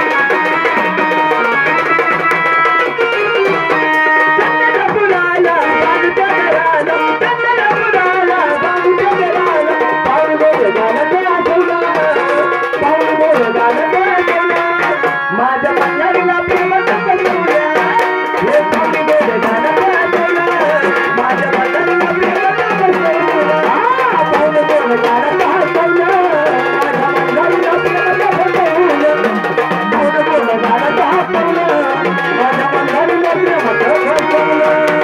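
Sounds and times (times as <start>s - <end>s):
hand drum playing fast rhythm: 0.0s - 35.0s
wavering melody line: 0.0s - 35.0s.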